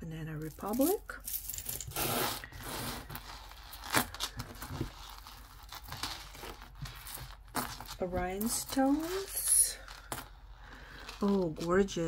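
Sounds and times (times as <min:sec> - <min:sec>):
jewelry chains rustling and clicking: 0:00.3 - 0:12.0.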